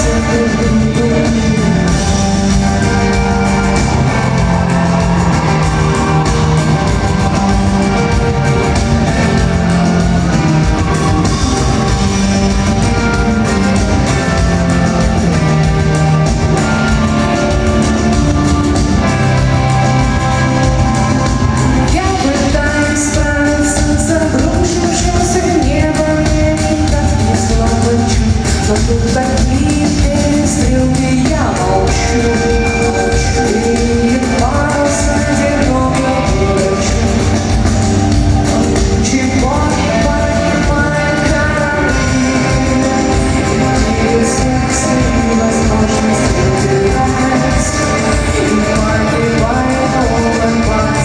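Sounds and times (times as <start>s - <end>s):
live rock band playing: 0.0s - 51.0s
person singing: 0.0s - 51.0s.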